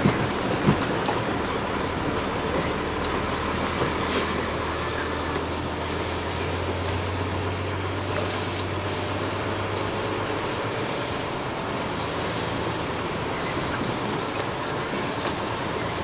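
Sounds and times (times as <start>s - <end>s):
constant noisy hiss: 0.0s - 16.0s
diesel truck engine droning: 0.0s - 16.0s.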